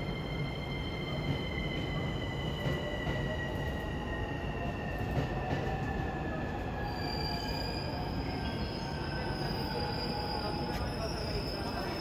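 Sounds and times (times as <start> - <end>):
train low rumble: 0.0 - 6.9, 7.8 - 12.0.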